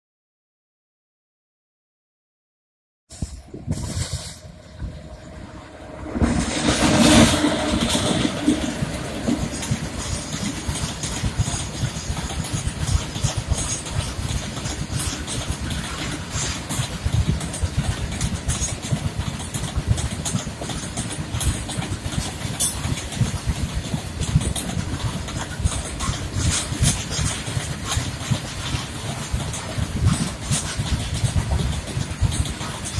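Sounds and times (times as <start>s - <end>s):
freight train wheels rumbling: 3.1s - 32.9s
wagons clicking and rattling: 6.3s - 32.9s.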